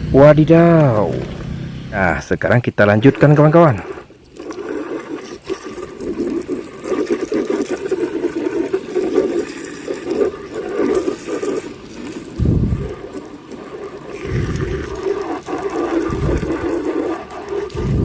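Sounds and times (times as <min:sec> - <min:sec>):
running water splashing: 0:02.8 - 0:18.0.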